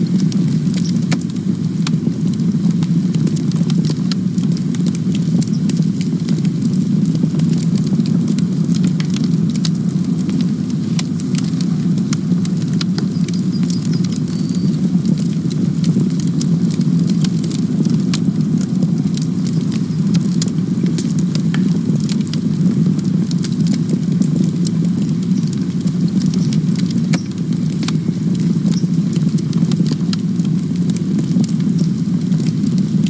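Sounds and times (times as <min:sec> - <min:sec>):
campfire crackling and popping: 0:00.0 - 0:33.0
low rumble of flame: 0:00.0 - 0:33.0.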